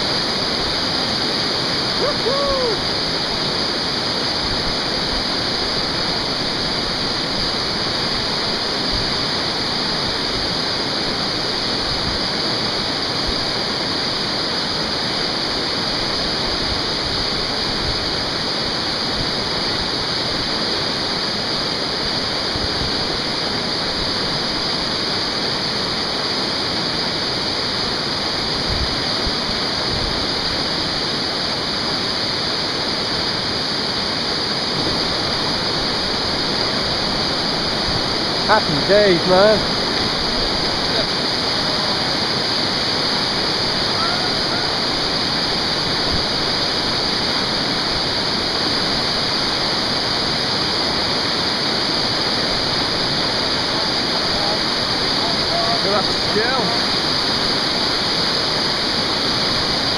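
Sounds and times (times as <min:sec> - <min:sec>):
whitewater rapids rushing: 0:00.0 - 0:59.9.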